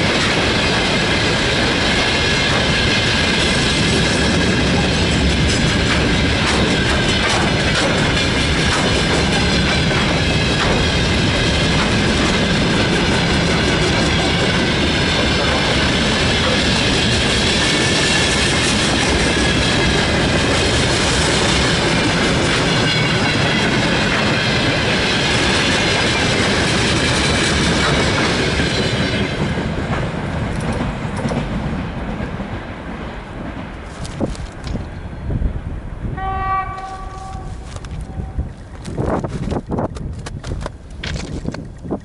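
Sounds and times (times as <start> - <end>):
freight train wheels clattering: 0.0 - 35.0.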